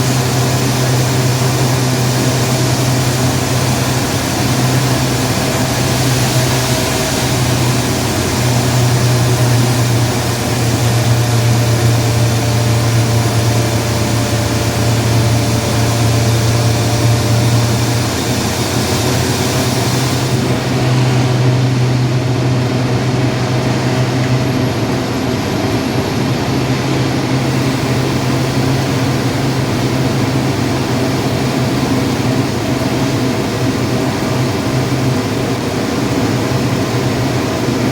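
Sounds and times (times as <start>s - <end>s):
vehicle driving on highway: 0.0s - 37.9s.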